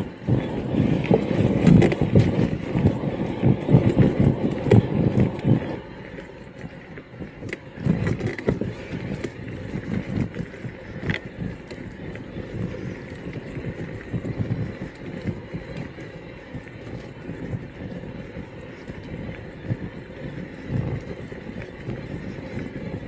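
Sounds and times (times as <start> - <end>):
bike rattling: 0.0 - 23.0
bike tyres rumbling on trail: 0.0 - 23.0.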